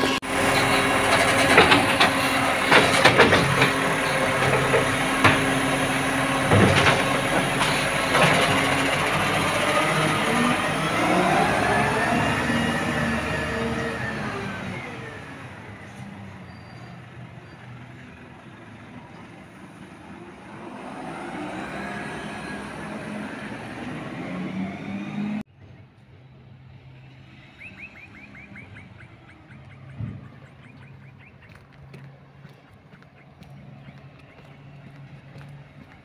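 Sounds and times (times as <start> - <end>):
garbage truck running with whine: 0.0 - 31.2
quiet street background: 0.0 - 36.0.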